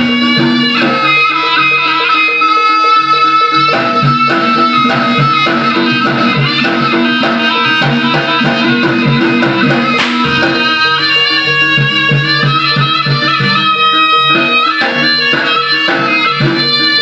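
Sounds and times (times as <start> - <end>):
drums and percussion beating: 0.0 - 17.0
reed pipe high note: 0.0 - 17.0.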